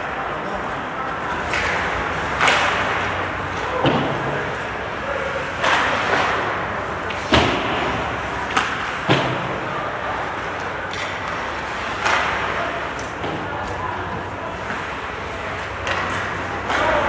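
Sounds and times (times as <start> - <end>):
skates scraping ice: 0.0 - 17.0
sticks and puck clacking: 0.0 - 17.0.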